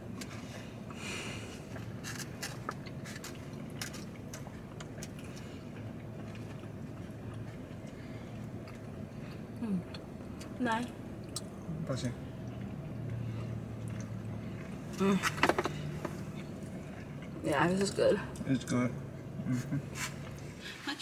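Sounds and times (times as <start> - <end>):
low car cabin hum: 0.0 - 21.0
chewing food: 1.6 - 18.8.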